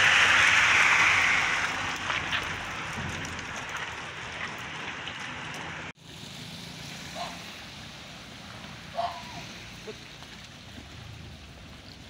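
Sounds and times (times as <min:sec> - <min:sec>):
rain and running water hiss: 0:00.0 - 0:12.0.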